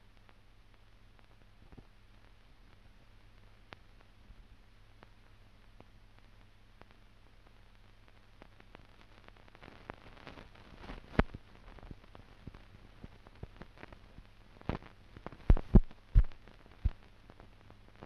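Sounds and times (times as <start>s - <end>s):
faint low hum: 0.0s - 18.0s
film crackle clicks and pops: 0.0s - 18.0s.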